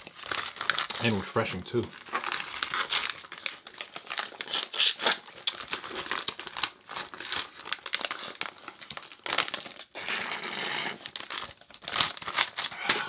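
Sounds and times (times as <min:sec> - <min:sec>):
bag crinkling and rustling: 0:00.0 - 0:13.0.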